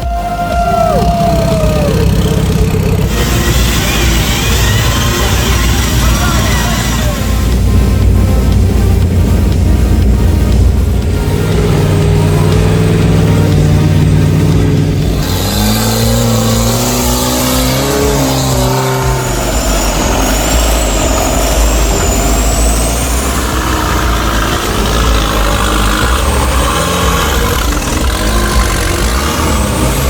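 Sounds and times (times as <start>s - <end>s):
off-road vehicle engine revving: 0.0s - 30.0s
thin high whine: 3.1s - 30.0s.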